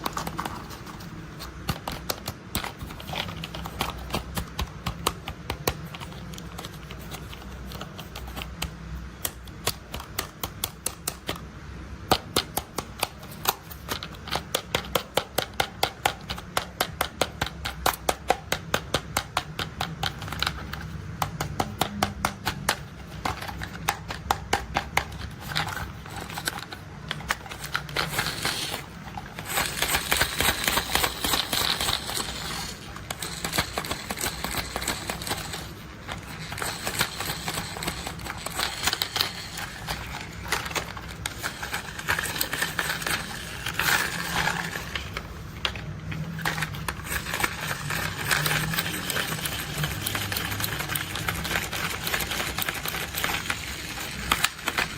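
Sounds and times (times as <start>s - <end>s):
plastic toys rattling: 0.0s - 11.4s, 12.2s - 54.9s
plastic toy clicks and taps: 0.0s - 45.8s, 46.4s - 54.9s.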